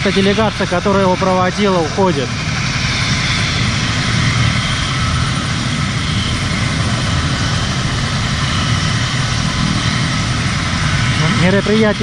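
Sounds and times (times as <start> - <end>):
helicopter rotor rumble: 0.0 - 12.0
helicopter turbine whine: 0.0 - 12.0.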